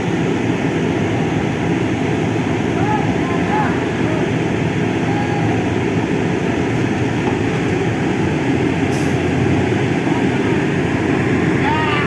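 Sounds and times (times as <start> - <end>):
heavy diesel engines running: 0.0 - 12.0.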